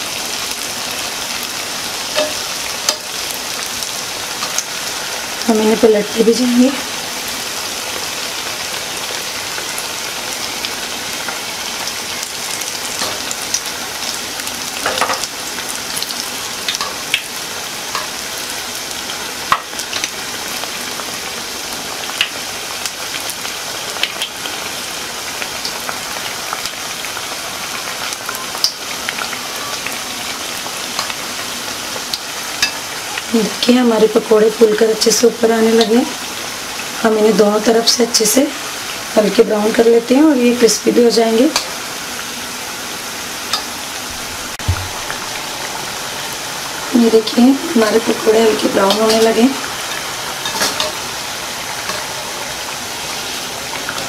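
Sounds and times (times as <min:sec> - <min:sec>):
deep-frying sizzle with pops: 0:00.0 - 0:54.0.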